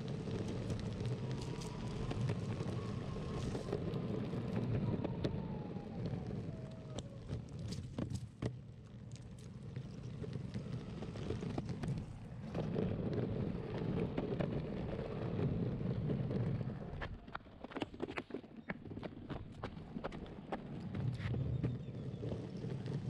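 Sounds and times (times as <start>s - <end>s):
longboard wheels rumbling on pavement: 0.0s - 23.0s
wheels clicking over cracks: 0.0s - 23.0s.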